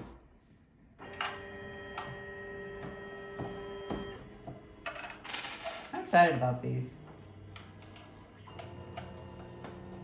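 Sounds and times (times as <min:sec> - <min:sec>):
faint stepper motor hum: 0:00.9 - 0:10.0.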